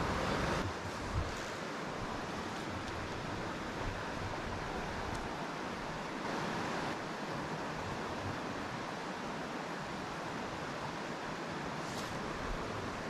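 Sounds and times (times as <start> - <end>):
creek water over rocks: 0.0 - 13.0.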